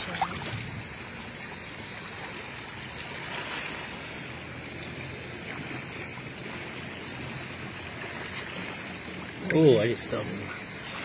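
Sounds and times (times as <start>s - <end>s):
underwater seawater rush: 0.0s - 11.0s.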